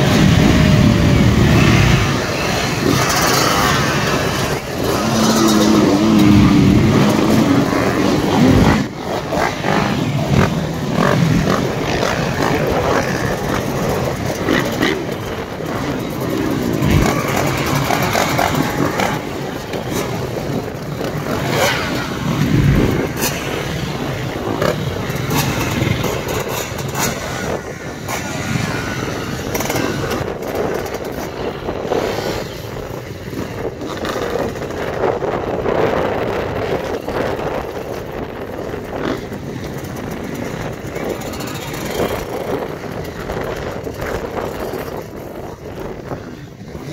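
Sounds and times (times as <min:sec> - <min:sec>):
motocross bikes revving past: 0:00.0 - 0:46.9.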